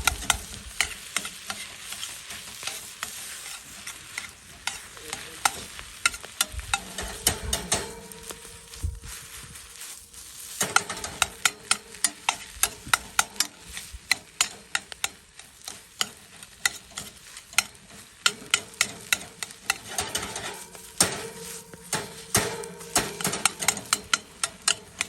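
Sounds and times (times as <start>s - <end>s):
rice sizzling in a pan: 0.0s - 25.0s
utensil scraping pan: 0.0s - 25.0s.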